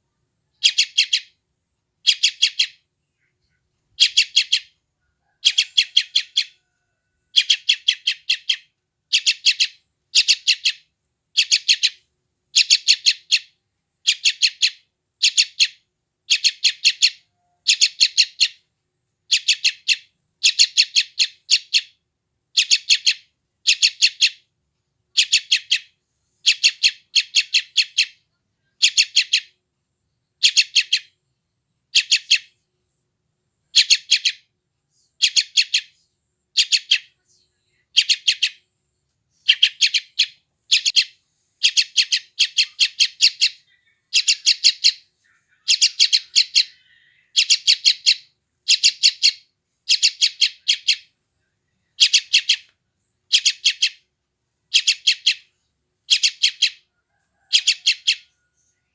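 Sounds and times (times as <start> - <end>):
bird chick chirping: 0.5 - 1.4, 2.0 - 18.6, 19.3 - 24.5, 25.1 - 29.6, 30.4 - 31.2, 31.9 - 32.6, 33.7 - 38.6, 39.4 - 54.1, 54.7 - 58.9.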